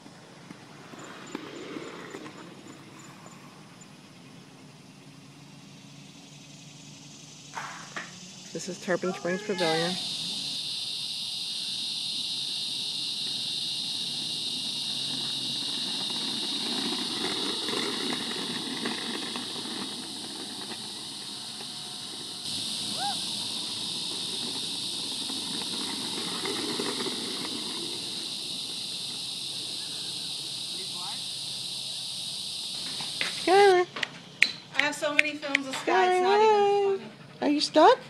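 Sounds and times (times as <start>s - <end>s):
wheels rolling over rough concrete: 0.0s - 6.7s, 7.6s - 37.9s
insect chorus hissing: 0.0s - 38.0s.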